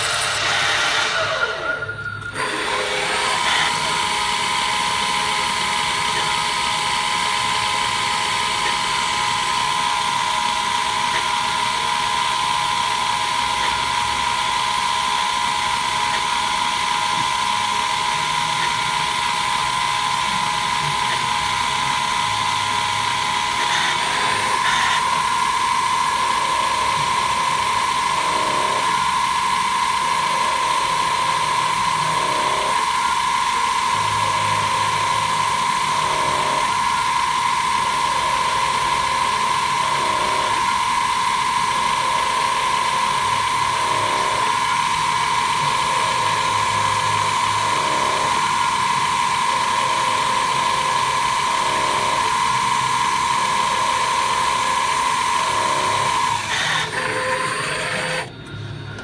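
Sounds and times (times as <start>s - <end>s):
cnc machine cutting metal: 0.0s - 59.0s.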